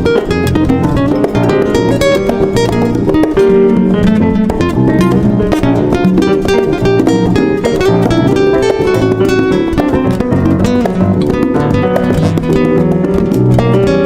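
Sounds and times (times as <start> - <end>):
fast plucked acoustic guitar: 0.0 - 14.0.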